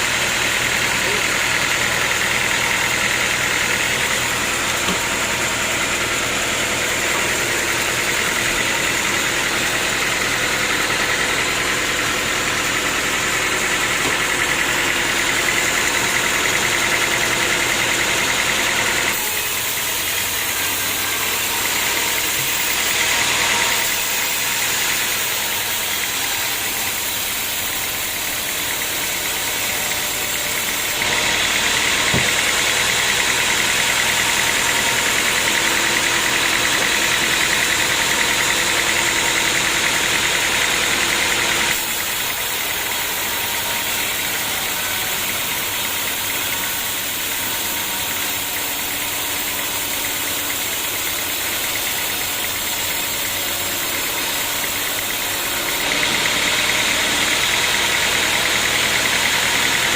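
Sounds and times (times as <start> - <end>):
sawmill machinery hum: 0.0 - 59.9.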